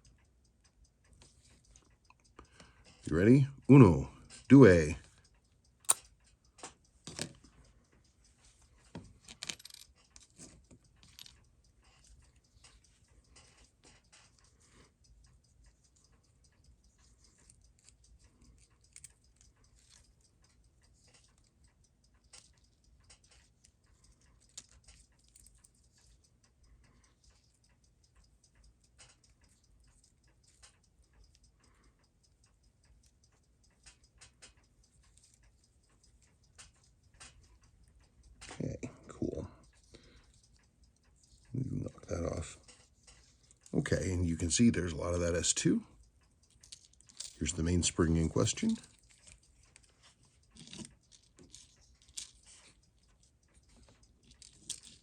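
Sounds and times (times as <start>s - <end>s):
small metallic clicks and taps: 0.0s - 55.0s.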